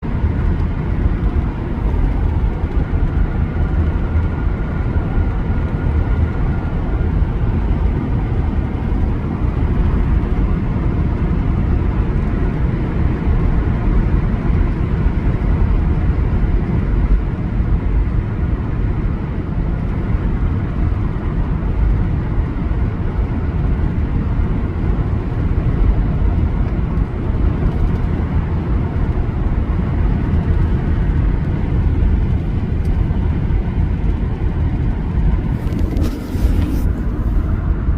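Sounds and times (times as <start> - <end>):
road and wind noise: 0.0 - 37.9.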